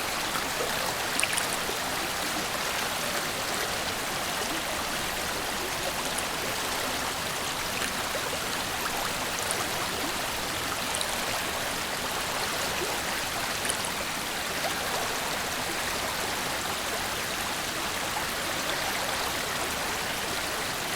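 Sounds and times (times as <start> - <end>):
river flowing: 0.0 - 20.9.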